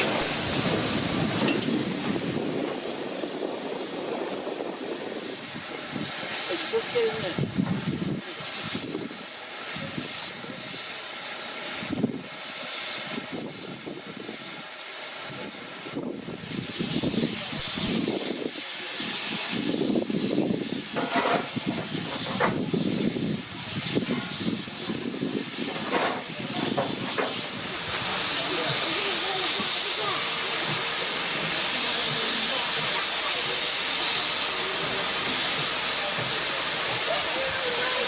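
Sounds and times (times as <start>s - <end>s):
steam locomotive hissing: 0.0s - 38.0s.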